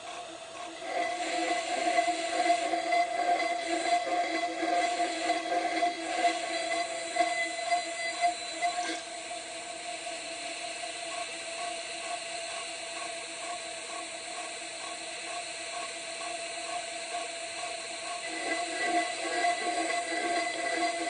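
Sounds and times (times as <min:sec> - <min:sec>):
milling machine whine over hiss: 0:00.0 - 0:21.0.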